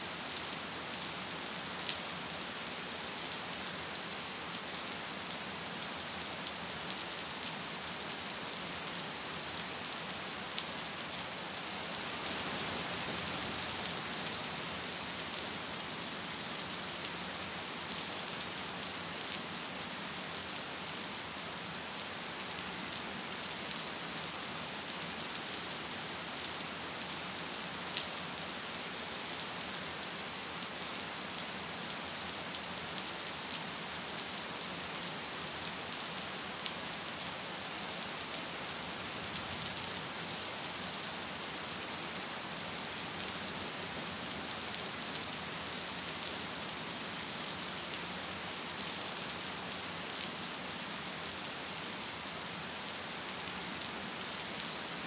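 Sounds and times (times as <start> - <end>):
gentle rain falling: 0.0 - 55.0.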